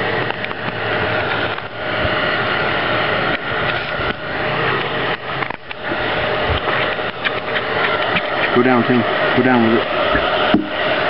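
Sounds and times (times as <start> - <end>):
heat gun fan whining: 0.0 - 11.0
rushing air: 0.0 - 11.0.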